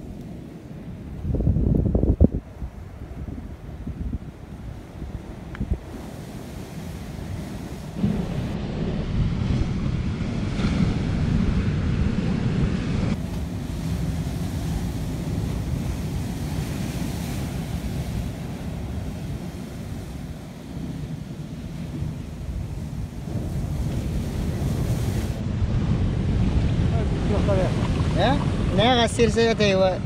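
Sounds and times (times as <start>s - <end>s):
wind noise on microphone: 0.0s - 30.0s
sea surf breaking: 2.5s - 30.0s.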